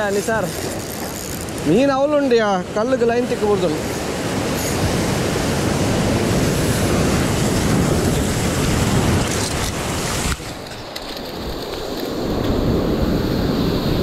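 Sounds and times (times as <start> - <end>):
wind buffeting microphone: 0.0 - 14.0
surf breaking over rocks: 1.5 - 14.0.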